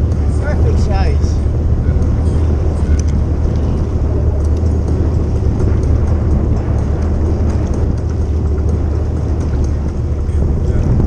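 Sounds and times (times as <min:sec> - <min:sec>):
water along hull: 0:00.0 - 0:11.0.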